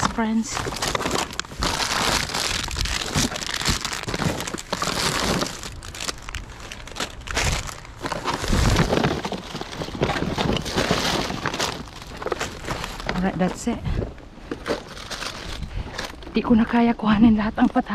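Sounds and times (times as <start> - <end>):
plastic bags crinkling: 0.0 - 13.8, 14.4 - 16.3.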